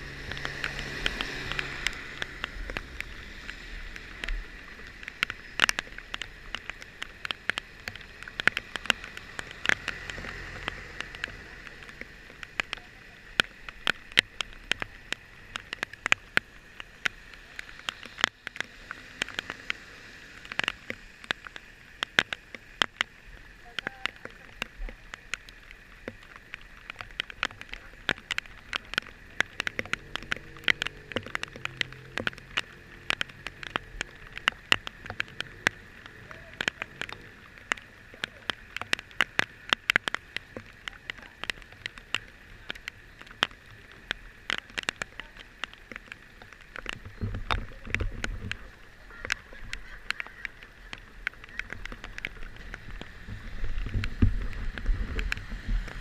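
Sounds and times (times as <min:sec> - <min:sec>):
raindrops tapping on vehicle: 0:00.0 - 0:56.0.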